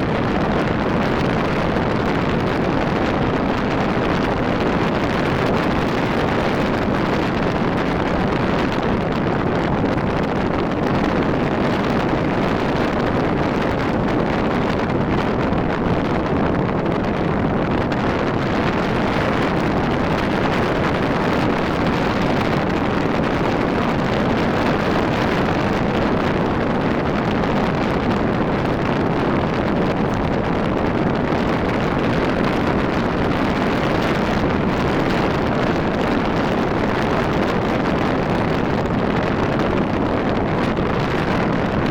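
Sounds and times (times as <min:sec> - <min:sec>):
motorcycle engine and road noise: 0:00.0 - 0:41.9
wind rush on microphone: 0:00.0 - 0:41.9.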